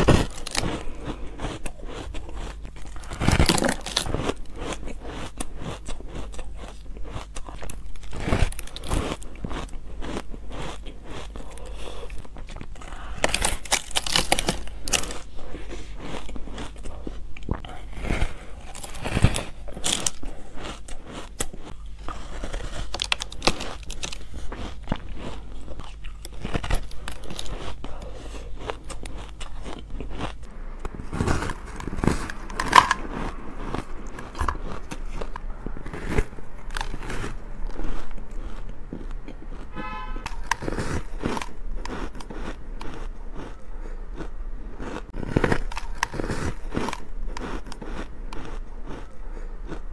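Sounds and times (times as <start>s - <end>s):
crunching bites of ice: 0.0s - 49.9s.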